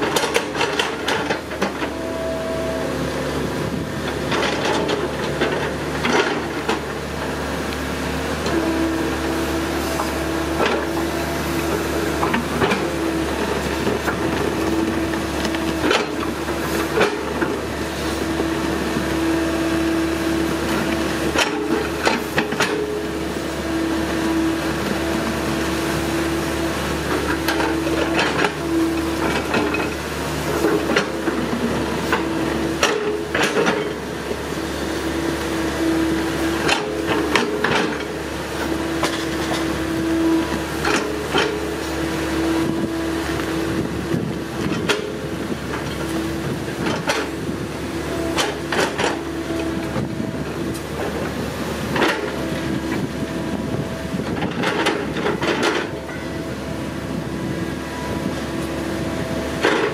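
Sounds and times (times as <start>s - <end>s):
excavator engine whining: 0.0s - 59.9s
excavator knocks and clanks: 0.0s - 59.9s.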